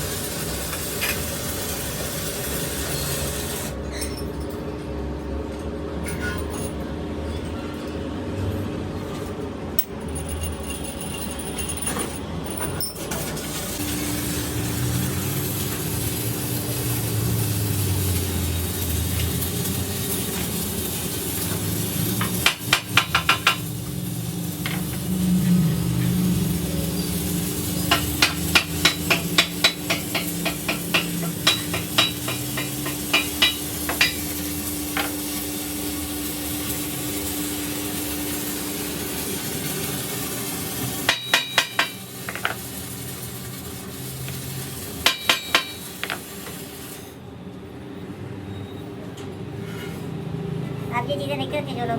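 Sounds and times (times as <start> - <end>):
steady workshop hum: 0.0 - 51.9.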